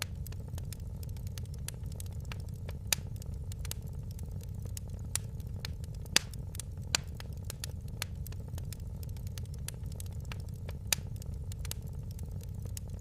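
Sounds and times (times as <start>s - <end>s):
low rumble: 0.0s - 13.0s
wood fire crackling and popping: 0.0s - 13.0s.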